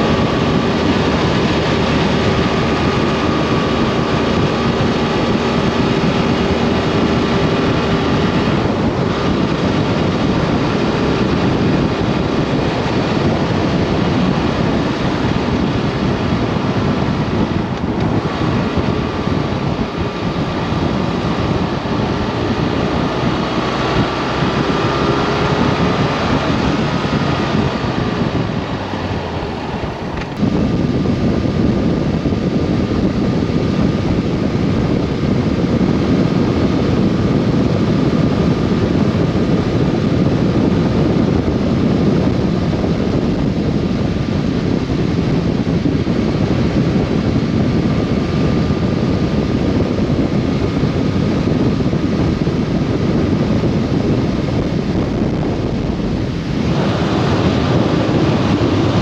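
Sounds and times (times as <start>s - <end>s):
motorcycle engine at road speed: 0.0s - 59.0s
wind noise on microphone: 0.0s - 59.0s.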